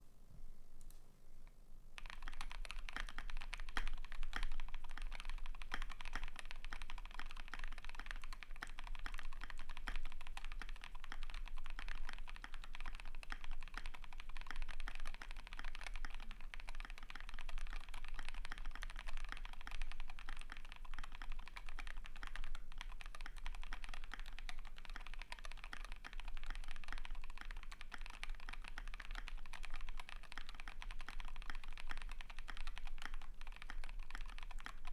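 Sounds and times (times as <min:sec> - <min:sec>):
mechanical keyboard key clacks: 0:02.0 - 0:34.9.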